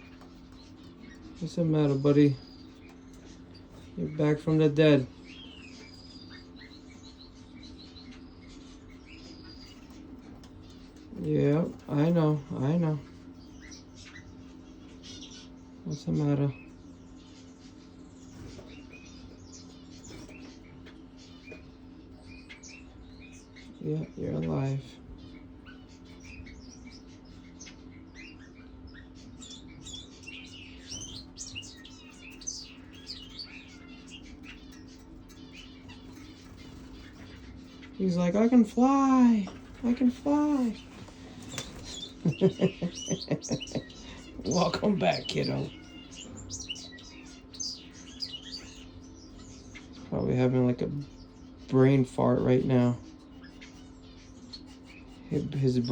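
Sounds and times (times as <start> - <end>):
faint bird chirping: 0.0 - 55.9
steady low hum: 0.0 - 55.9.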